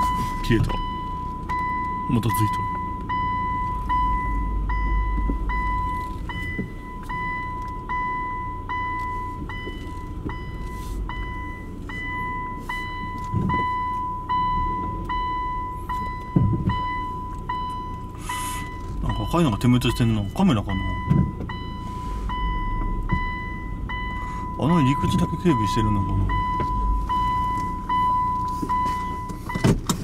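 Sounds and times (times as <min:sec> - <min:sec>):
high electronic beeps: 0:00.0 - 0:29.7
low vehicle rumble: 0:00.0 - 0:30.0.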